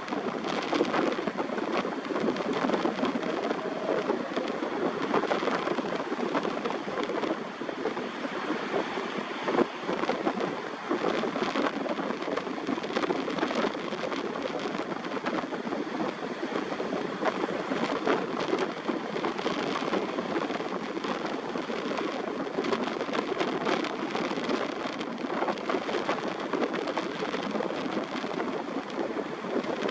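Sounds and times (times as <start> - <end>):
heavy surf: 0.0 - 29.9
wind buffeting microphone: 0.0 - 29.9.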